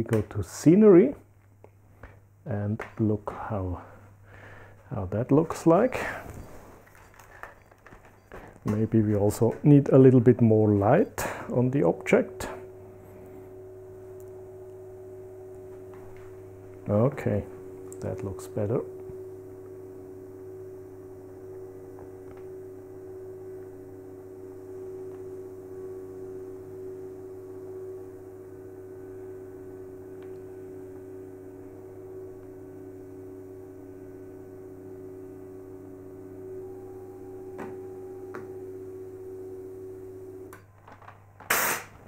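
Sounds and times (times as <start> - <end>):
thermal printer humming: 3.2 - 41.4.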